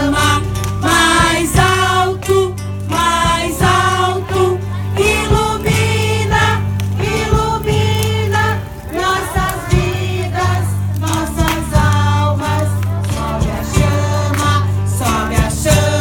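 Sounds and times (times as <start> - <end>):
group of voices singing: 0.0 - 16.0
low musical accompaniment: 0.0 - 16.0.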